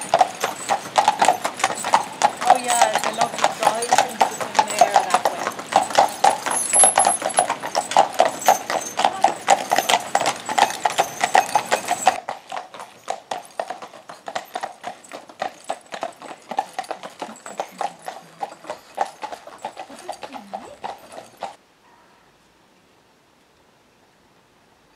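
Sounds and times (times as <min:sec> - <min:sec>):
horse hooves clip-clopping on tarmac: 0:00.0 - 0:21.6.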